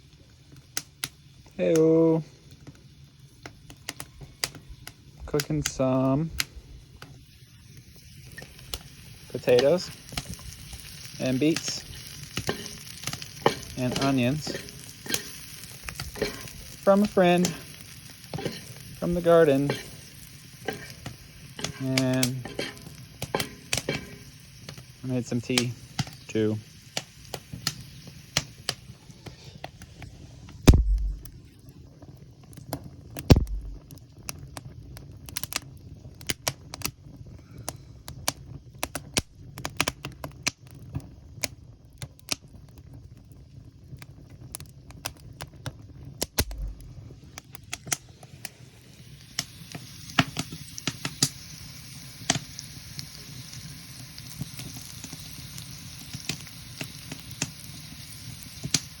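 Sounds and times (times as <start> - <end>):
food frying sizzle: 0.0 - 59.0
wood fire crackling and popping: 0.0 - 59.0.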